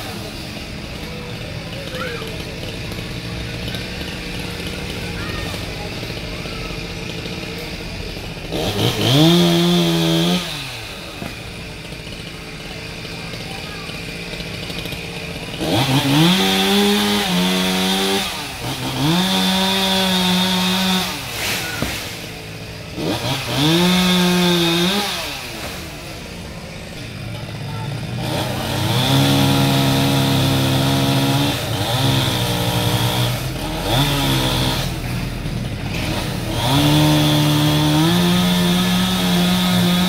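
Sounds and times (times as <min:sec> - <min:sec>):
chainsaw engine idling and revving: 0:00.0 - 0:40.0.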